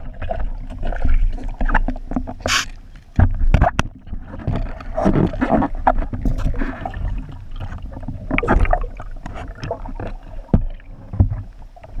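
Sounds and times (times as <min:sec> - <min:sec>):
muffled underwater water movement: 0:00.0 - 0:12.0.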